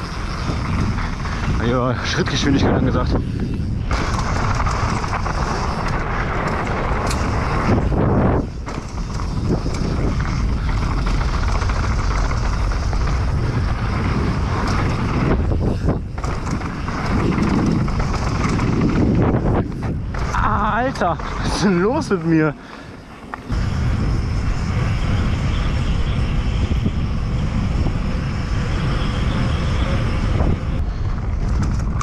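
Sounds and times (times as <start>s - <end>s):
mountain bike on dirt trail: 0.0s - 32.0s.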